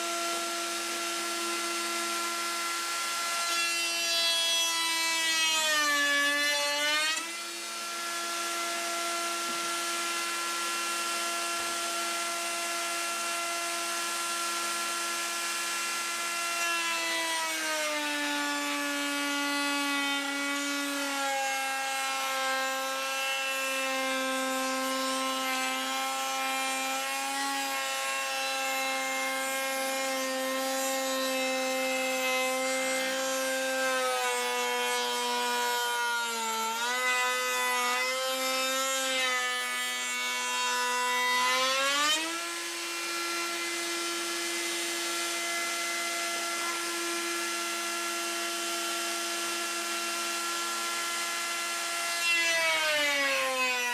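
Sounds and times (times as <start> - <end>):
router motor whining: 0.0 - 53.9.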